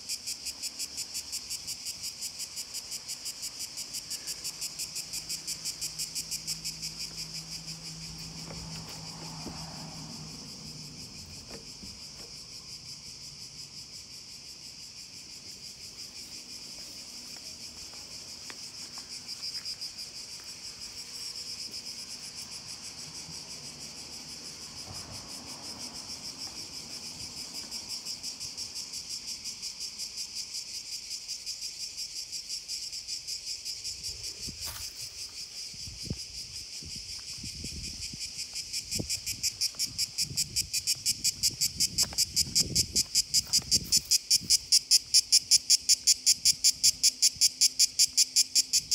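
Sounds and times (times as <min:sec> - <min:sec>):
insects chorus pulsing: 0:00.0 - 0:48.9.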